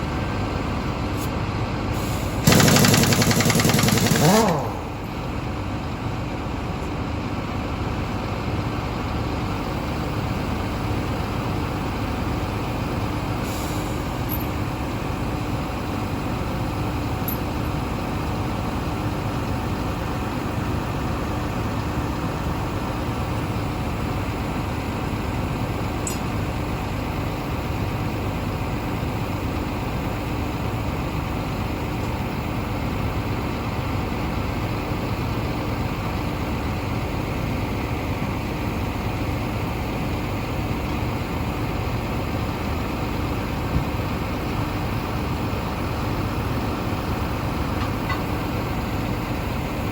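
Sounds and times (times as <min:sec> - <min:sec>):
heavy vehicle engine humming: 0:00.0 - 0:49.9.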